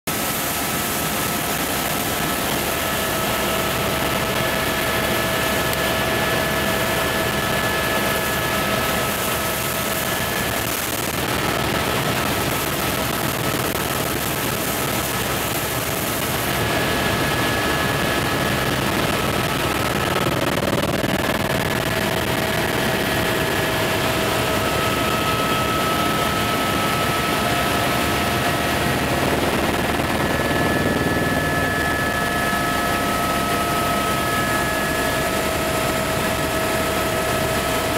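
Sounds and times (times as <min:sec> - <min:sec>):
helicopter engine and rotor drone: 0:00.1 - 0:37.9.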